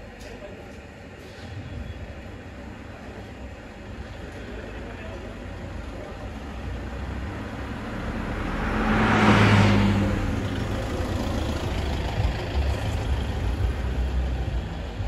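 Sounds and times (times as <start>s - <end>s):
diesel car driving past: 1.4s - 15.0s.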